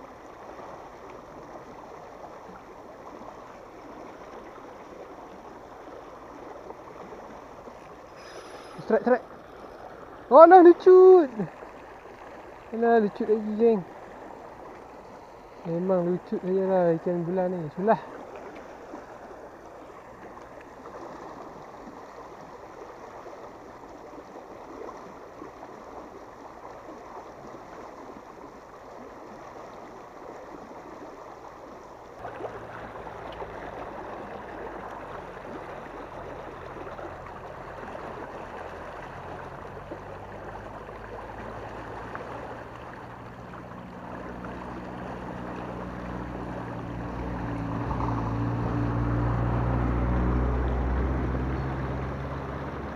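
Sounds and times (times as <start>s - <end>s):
low engine-like hum: 0.0s - 52.9s
water rushing out of an outlet: 0.0s - 52.9s.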